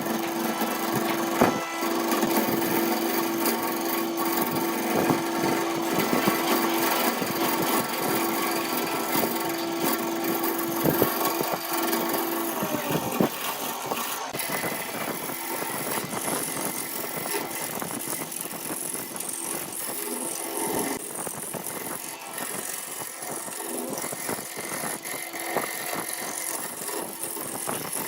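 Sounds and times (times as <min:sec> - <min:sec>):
wood lathe cutting wood: 0:00.0 - 0:28.0.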